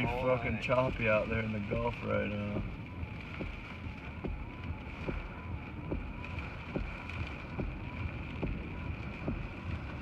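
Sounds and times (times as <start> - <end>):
choppy surf rumbling: 0.0 - 10.0
steady wind: 0.0 - 10.0.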